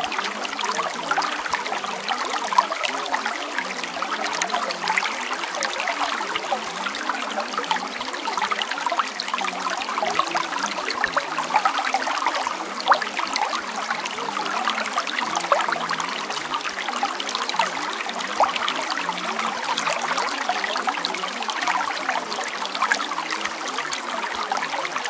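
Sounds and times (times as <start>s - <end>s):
running water bubbling trickle: 0.0s - 25.0s.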